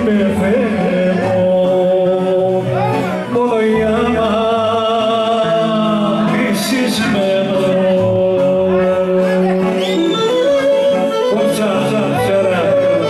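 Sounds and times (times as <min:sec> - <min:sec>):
folk dance music accompaniment: 0:00.0 - 0:13.0
man singing long held notes: 0:00.0 - 0:13.0.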